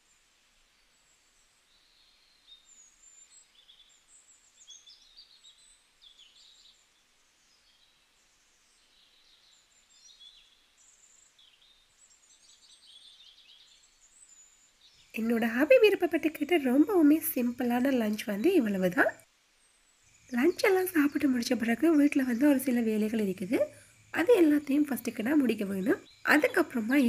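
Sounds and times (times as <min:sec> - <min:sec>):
faint birdsong chirps: 0:00.0 - 0:27.0.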